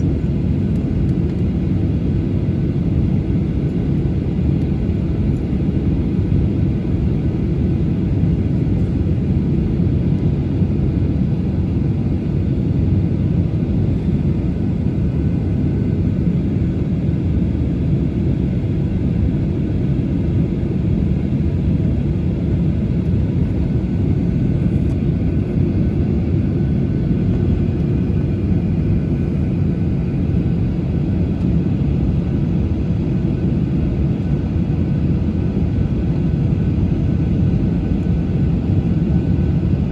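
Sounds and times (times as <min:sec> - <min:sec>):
jet engines idling from cabin: 0:00.0 - 0:39.9.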